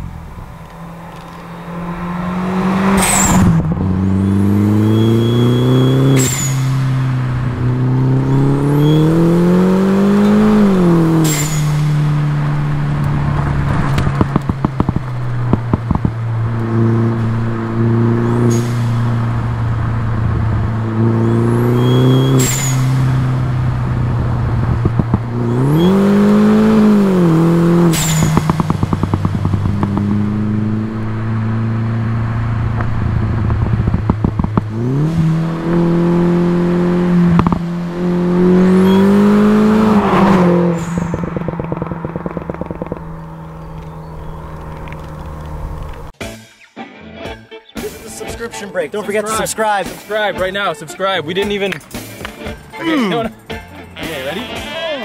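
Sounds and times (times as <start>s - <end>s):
car engine revving: 0.0s - 46.2s
exhaust crackling: 0.0s - 46.2s.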